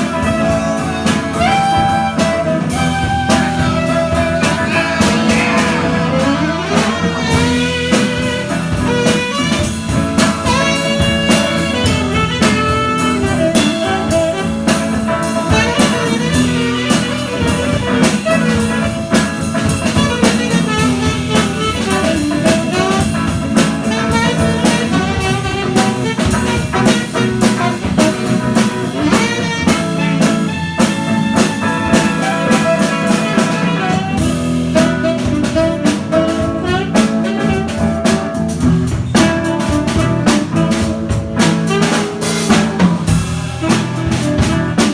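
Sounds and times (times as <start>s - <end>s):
drum kit: 0.0s - 44.9s
jazz guitar: 0.0s - 44.9s
saxophone improvising jazz: 0.0s - 44.9s.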